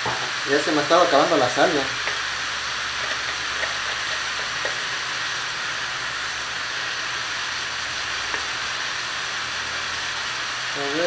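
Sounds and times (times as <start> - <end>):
mushrooms sizzling in frying pan: 0.0 - 11.0.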